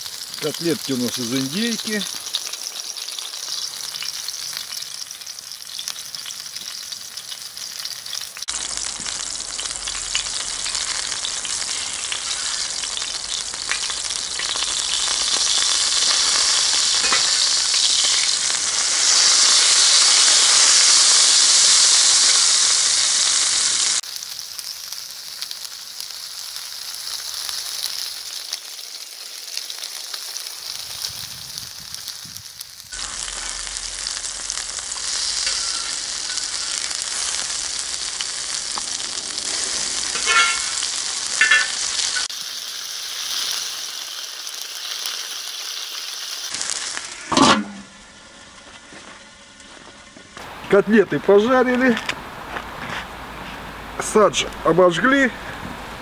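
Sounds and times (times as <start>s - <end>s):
meat sizzling in oil: 0.0s - 52.0s.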